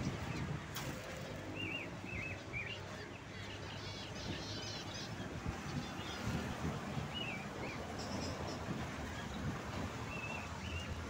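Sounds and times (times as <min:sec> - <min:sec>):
cage birds chirping: 0:00.0 - 0:11.0.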